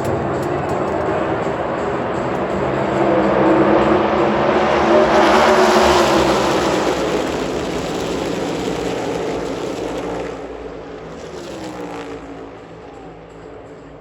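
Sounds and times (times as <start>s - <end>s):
car passing by: 0.0s - 13.2s
race car engines roaring: 0.0s - 14.0s.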